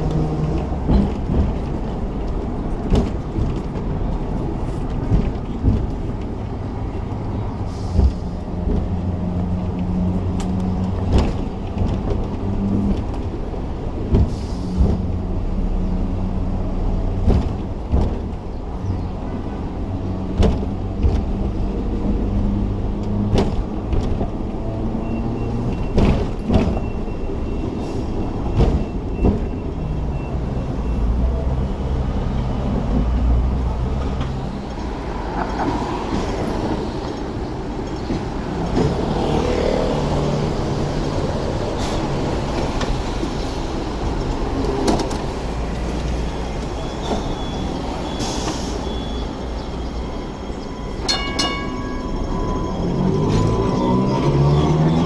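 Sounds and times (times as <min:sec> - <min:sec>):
tram knocks and rattles: 0:00.0 - 0:55.0
tram rumble and motor hum: 0:00.0 - 0:55.0.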